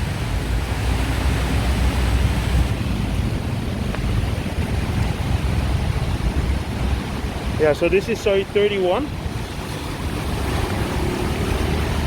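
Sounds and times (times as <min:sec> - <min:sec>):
water rushing on flooded street: 0:00.0 - 0:12.0.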